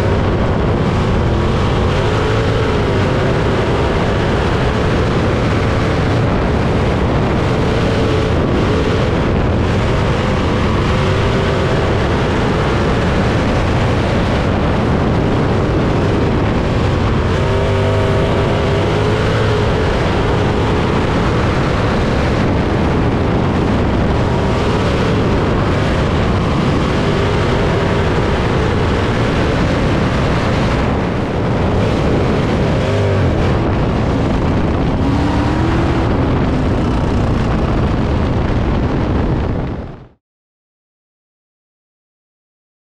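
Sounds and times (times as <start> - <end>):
racing car engine running hard: 0.0 - 40.2.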